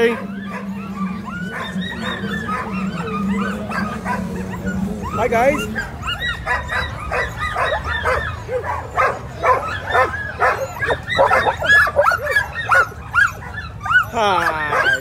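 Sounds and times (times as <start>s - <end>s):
sled dogs barking and yipping: 0.0s - 15.0s.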